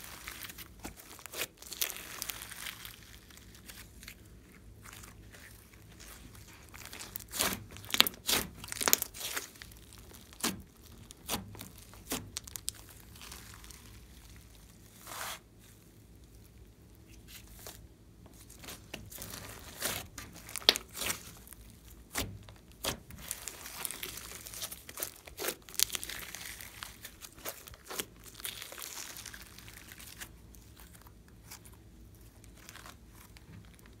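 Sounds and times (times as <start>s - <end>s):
slime crackling and popping: 0.0s - 4.2s, 4.8s - 15.0s, 18.4s - 34.0s.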